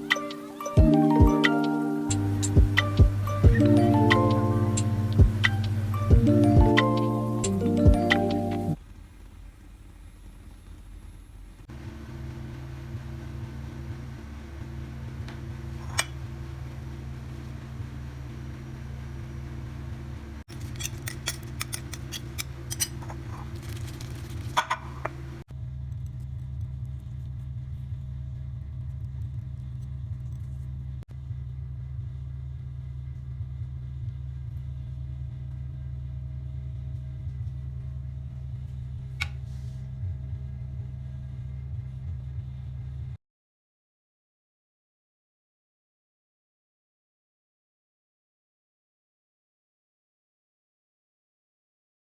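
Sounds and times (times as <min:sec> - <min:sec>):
low mechanical hum: 0:00.0 - 0:43.2.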